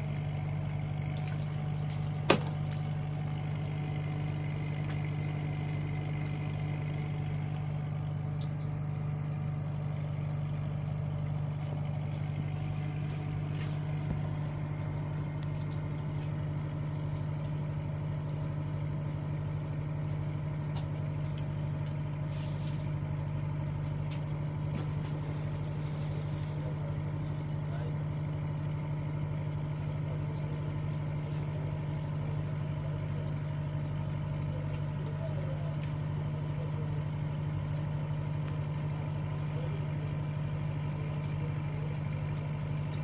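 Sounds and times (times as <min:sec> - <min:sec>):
boat engine idling: 0:00.0 - 0:43.0.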